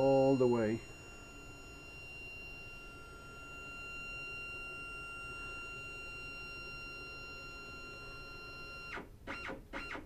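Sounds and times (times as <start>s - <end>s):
stepper motor whining: 0.0s - 10.0s.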